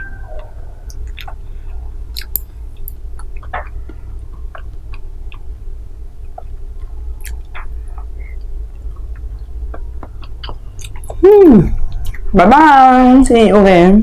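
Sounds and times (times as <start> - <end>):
low hum: 0.0 - 14.0
chewing soft jelly: 0.2 - 12.4.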